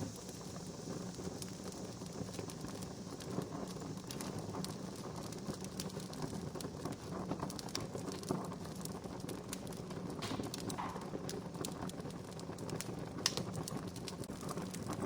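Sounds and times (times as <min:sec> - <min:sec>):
campfire crackling and popping: 0:00.0 - 0:15.0
low rush of fire: 0:00.0 - 0:15.0.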